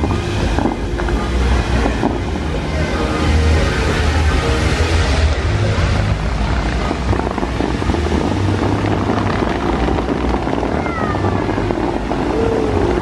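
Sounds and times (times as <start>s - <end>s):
deep low rumble: 0.0s - 13.0s
fountain water jets rushing: 0.0s - 13.0s
music over outdoor loudspeakers: 0.0s - 13.0s.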